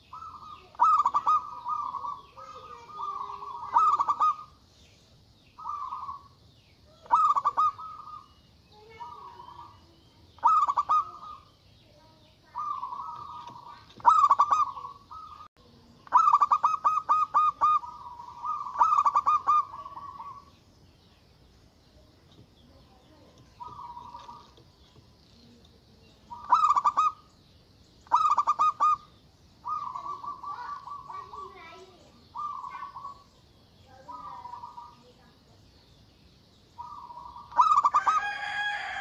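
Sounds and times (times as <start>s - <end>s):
dove cooing: 0.0s - 4.6s, 5.6s - 11.6s, 12.4s - 20.6s, 22.9s - 24.9s, 25.5s - 27.3s, 28.0s - 35.5s, 36.8s - 39.0s.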